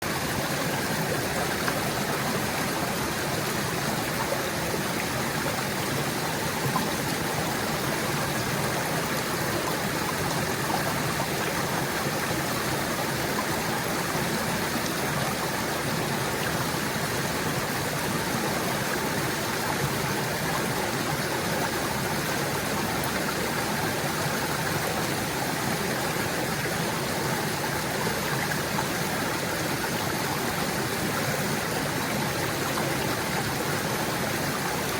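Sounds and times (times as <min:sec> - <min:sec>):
stream gurgling over rocks: 0:00.0 - 0:34.9.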